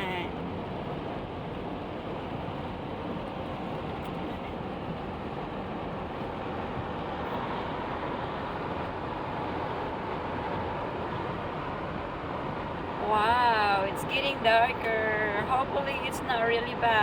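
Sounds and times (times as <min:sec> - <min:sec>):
car road and engine noise: 0:00.0 - 0:17.0
faint steady whine: 0:00.0 - 0:17.0.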